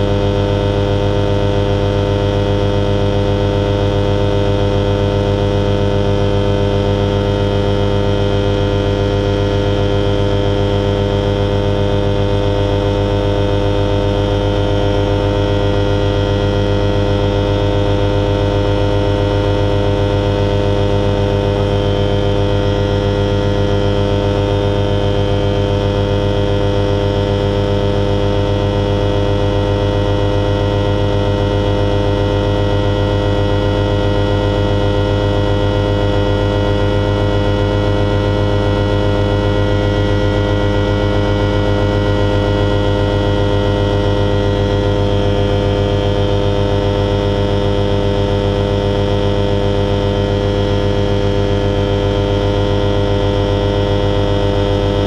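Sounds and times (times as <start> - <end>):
propeller engine droning: 0.0 - 55.0.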